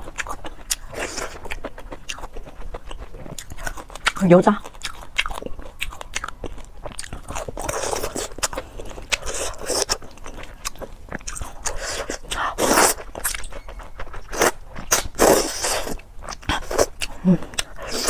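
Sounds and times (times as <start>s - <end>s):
crunchy biting and chewing: 0.0s - 18.0s.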